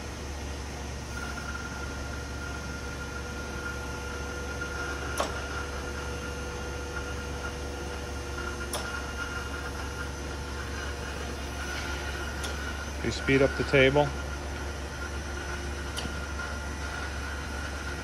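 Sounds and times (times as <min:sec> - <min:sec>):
hydraulic system humming: 0:00.0 - 0:18.0.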